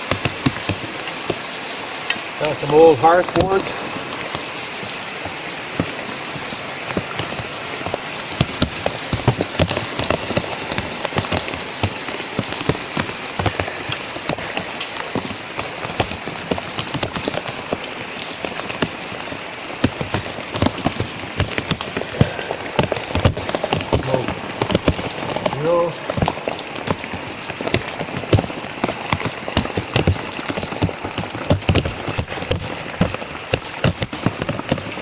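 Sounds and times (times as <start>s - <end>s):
heavy rain: 0.0s - 35.0s
raindrop hits: 0.0s - 35.0s.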